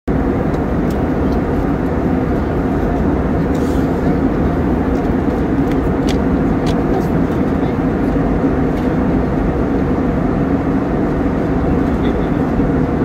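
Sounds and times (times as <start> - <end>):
jet engines droning: 0.1 - 13.0.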